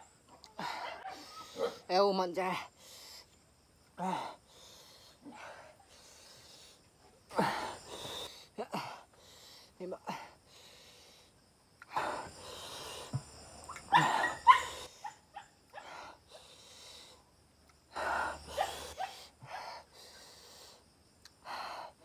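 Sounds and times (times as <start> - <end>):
man breathing hard and panting: 2.7 - 15.0, 15.8 - 17.3, 17.9 - 22.0.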